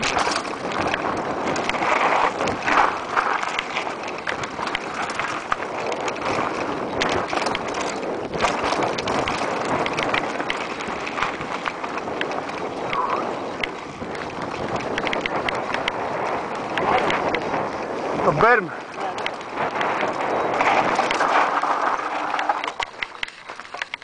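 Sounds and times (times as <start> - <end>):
bike rattling over rocks: 0.0 - 24.0
tyres rolling over loose stone: 0.0 - 24.0
wind on microphone: 0.0 - 24.0.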